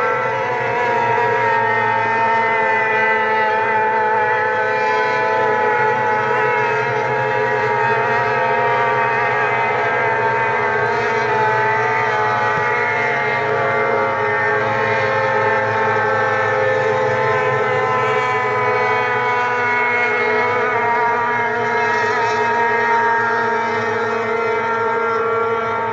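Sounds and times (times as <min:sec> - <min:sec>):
racing boat engines whining: 0:00.0 - 0:25.9.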